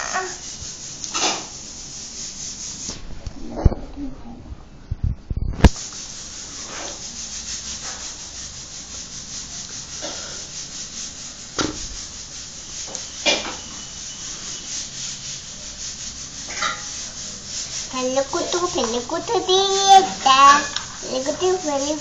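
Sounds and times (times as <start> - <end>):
rubbing and scraping: 0.0 - 3.0, 5.6 - 22.0.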